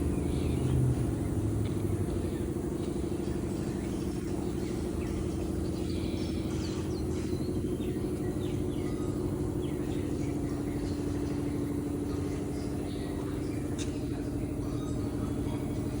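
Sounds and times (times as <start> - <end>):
faint bird chirps: 0.0 - 15.9
motor humming: 0.0 - 16.0.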